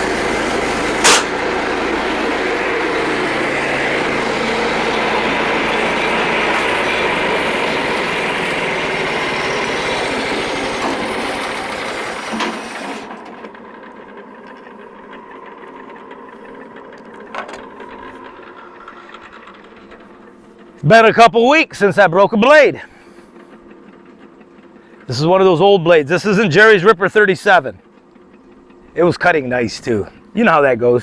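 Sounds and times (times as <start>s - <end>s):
bandsaw sawmill running: 0.0s - 31.0s
steady hum: 0.0s - 31.0s.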